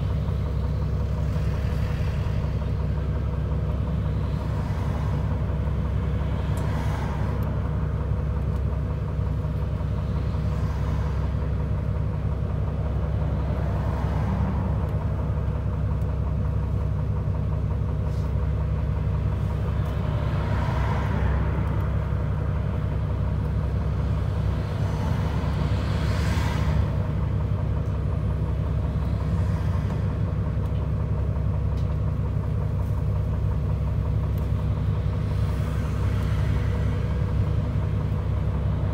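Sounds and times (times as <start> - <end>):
bus diesel engine idling: 0.0 - 38.9
vehicles passing outside: 0.0 - 38.9.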